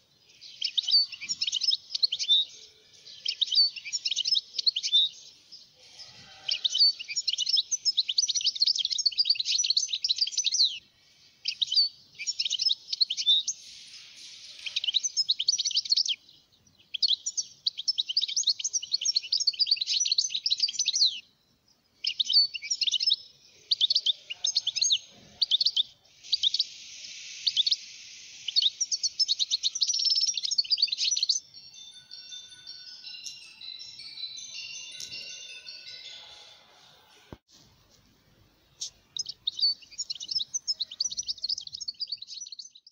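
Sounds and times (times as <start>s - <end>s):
finch singing tinkling twitters: 0.0s - 37.5s, 38.8s - 42.9s.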